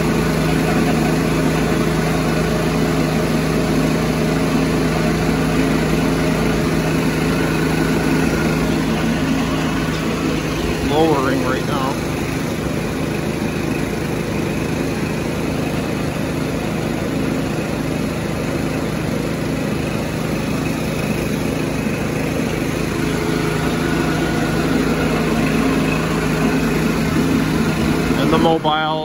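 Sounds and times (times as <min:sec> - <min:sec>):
sawmill gas engine running: 0:00.0 - 0:29.0.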